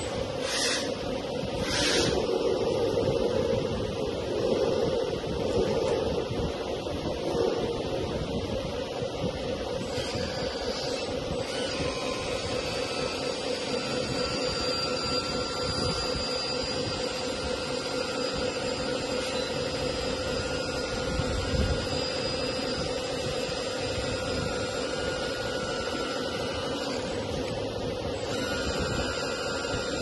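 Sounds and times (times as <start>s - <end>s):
hydraulic pump whining: 0.0s - 30.0s.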